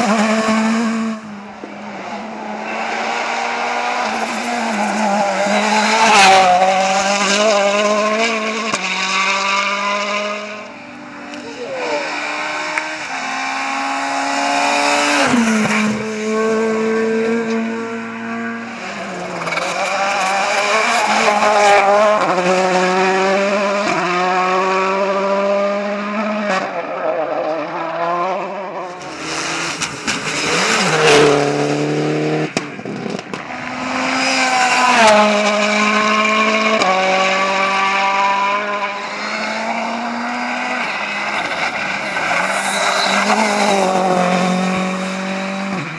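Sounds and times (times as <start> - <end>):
rally car engines at full throttle: 0.0 - 45.9.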